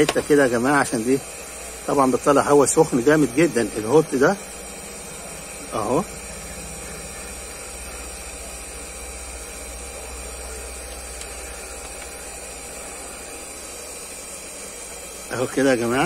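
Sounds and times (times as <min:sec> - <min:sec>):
heat gun fan blowing hot air: 0:00.0 - 0:16.0.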